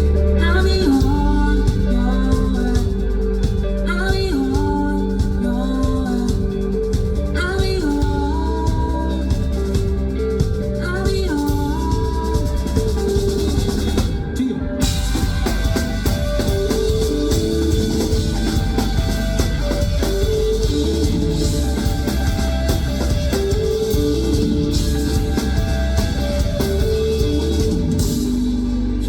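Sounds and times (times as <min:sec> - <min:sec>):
bass: 0:00.0 - 0:29.0
drum kit beat: 0:00.0 - 0:29.0
guitar: 0:00.0 - 0:29.0.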